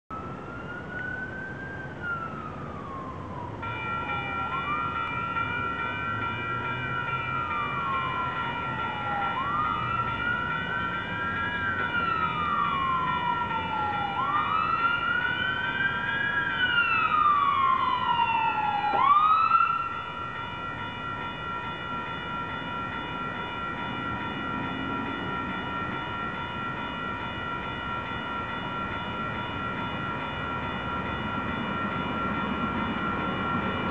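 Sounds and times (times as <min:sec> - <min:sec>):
emergency siren wailing: 0:00.1 - 0:33.9
railroad crossing warning bell: 0:00.1 - 0:33.9.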